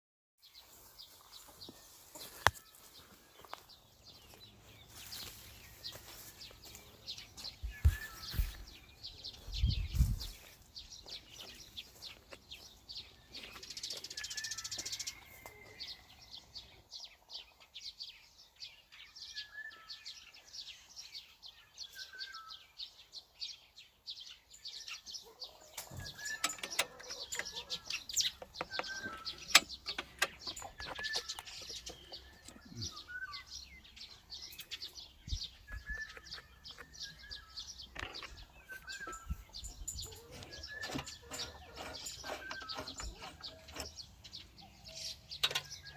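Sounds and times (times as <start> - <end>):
small birds chirping: 0.4 - 45.9.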